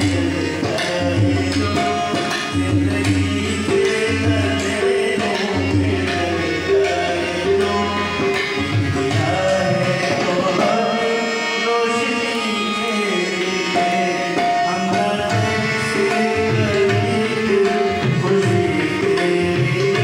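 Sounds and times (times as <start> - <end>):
man singing into a microphone: 0.0 - 20.0
tabla drumming: 0.0 - 20.0.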